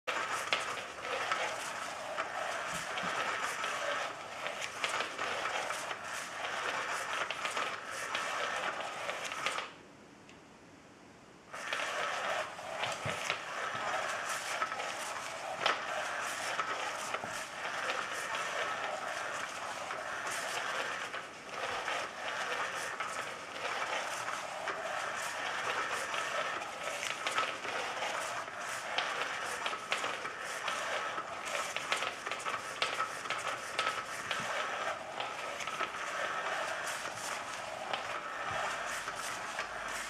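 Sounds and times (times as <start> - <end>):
cat toy motor rustling: 0.0 - 9.7, 11.5 - 40.0.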